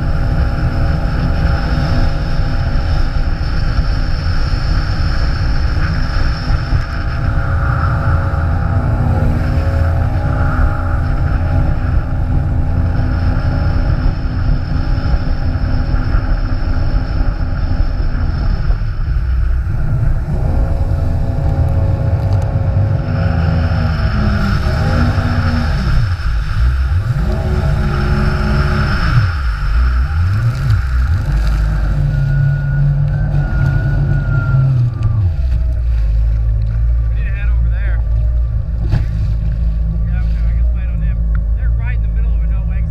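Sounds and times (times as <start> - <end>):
jet ski engine running: 0.0 - 42.9
wind and water rushing: 0.0 - 42.9.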